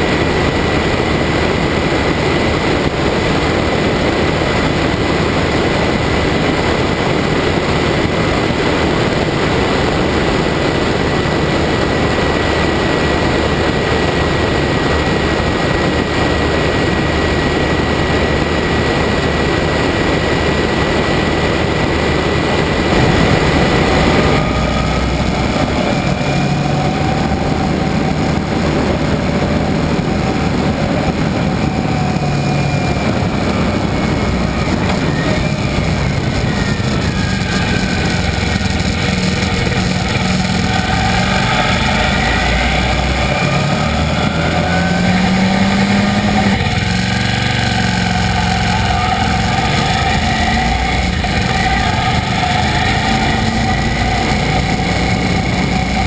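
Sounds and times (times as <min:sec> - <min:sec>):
heavy wind noise: 0:00.0 - 0:56.0
motorcycle engine revving: 0:00.0 - 0:56.0.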